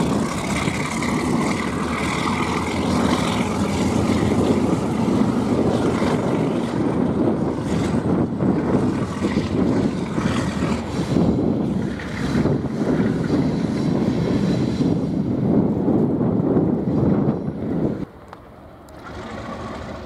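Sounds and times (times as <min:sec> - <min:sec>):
diesel locomotives rumbling: 0:00.0 - 0:20.0.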